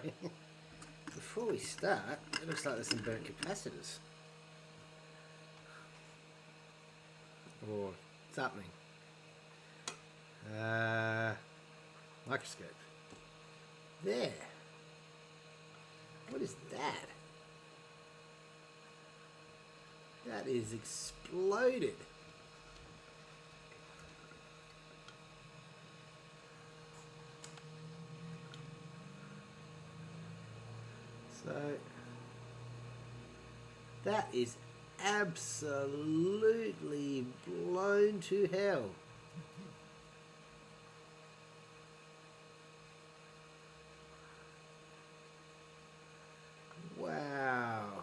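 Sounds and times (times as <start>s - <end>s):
faint electrical hum: 0.0s - 48.0s.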